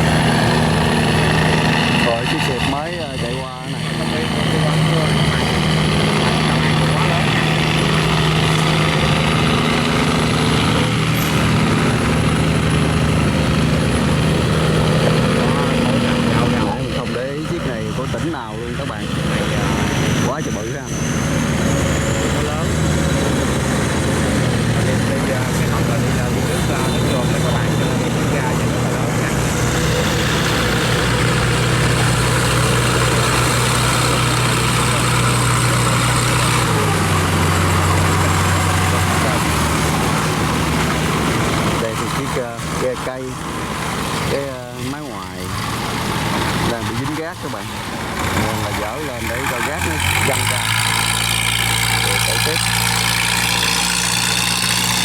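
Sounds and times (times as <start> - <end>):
barge diesel engine droning: 0.0 - 55.0.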